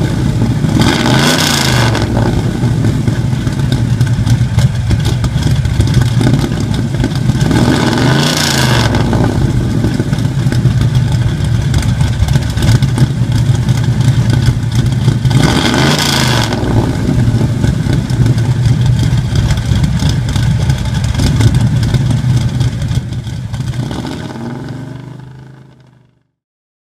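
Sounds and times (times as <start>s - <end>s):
engine revving blips: 0.0s - 25.5s
car engine idling: 0.0s - 26.2s.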